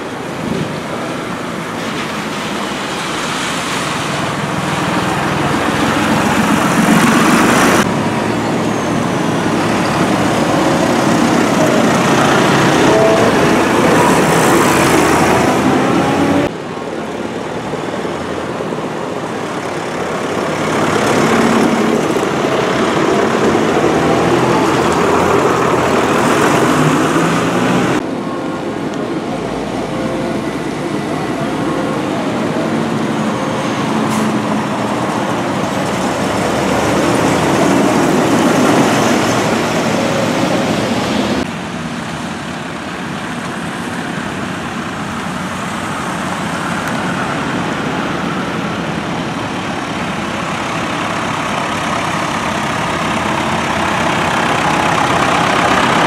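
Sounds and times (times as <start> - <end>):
tractor diesel engines passing: 0.0 - 56.0.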